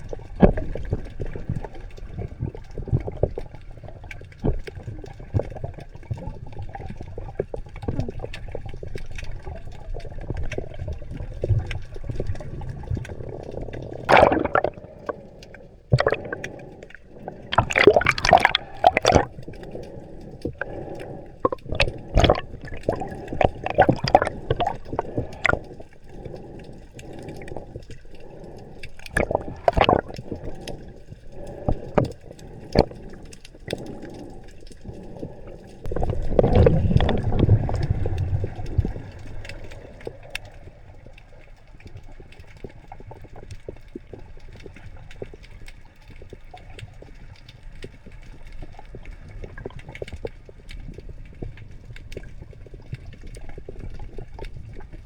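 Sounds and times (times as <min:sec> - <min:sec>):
low rush of bubbles: 0:00.0 - 0:26.4, 0:28.4 - 0:55.0
irregular crackles: 0:00.0 - 0:55.0
water bubbling and gurgling: 0:00.0 - 0:55.0.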